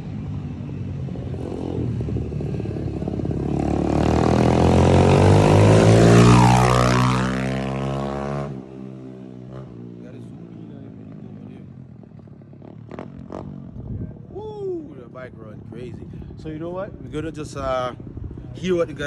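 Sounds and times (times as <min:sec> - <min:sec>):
dirt bike riding past: 0:00.0 - 0:19.0.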